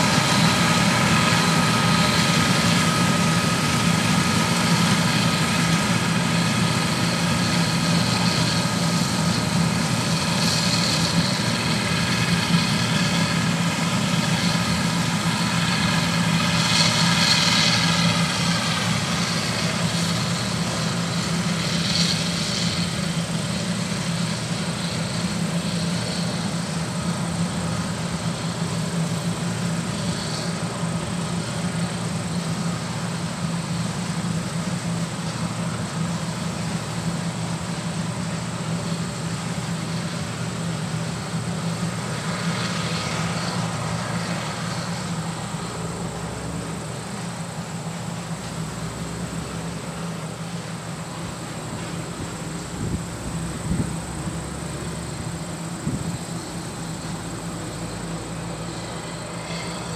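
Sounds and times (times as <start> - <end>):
combine harvester engine drone: 0.0 - 59.9
high machinery whine: 0.0 - 59.9.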